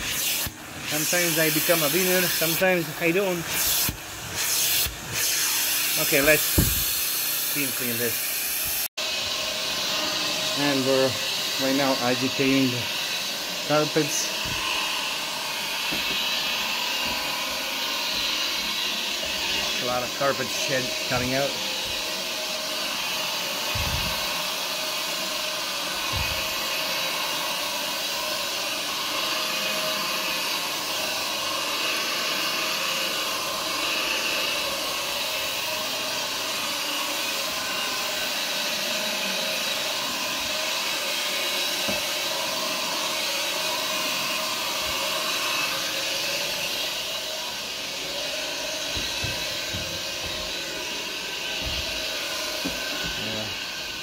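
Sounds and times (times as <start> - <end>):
carpet scrubber motor whirring: 0.0 - 54.0.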